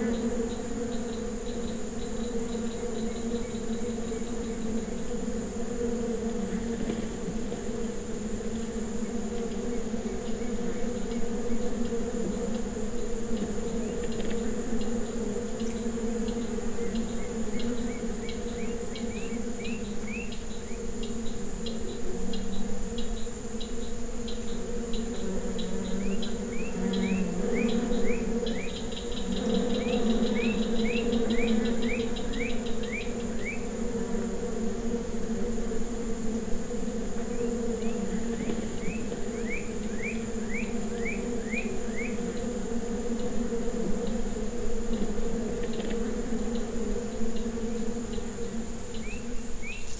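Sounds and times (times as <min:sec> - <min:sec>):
high thin insect whine: 0:00.0 - 0:49.9
insect buzzing: 0:00.0 - 0:49.9.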